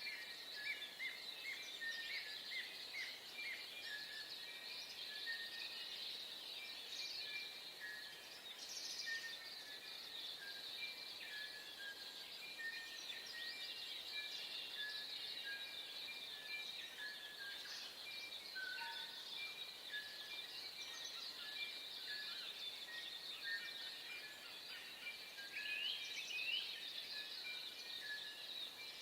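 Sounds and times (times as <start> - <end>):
birds chirping and twittering: 0.0 - 29.0.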